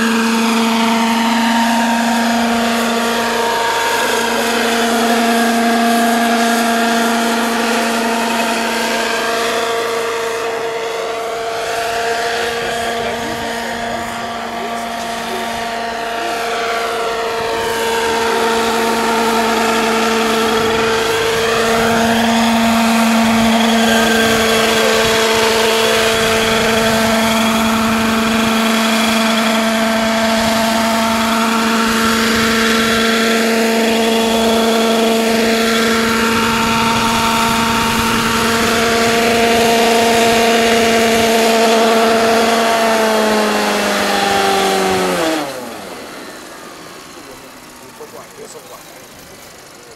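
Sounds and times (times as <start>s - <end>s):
model helicopter rotor hum: 0.0s - 49.9s.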